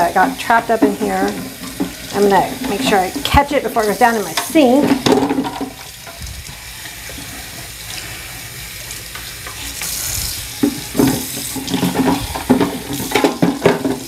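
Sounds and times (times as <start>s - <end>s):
faucet water splashing into sink: 0.0s - 8.1s, 8.7s - 14.0s.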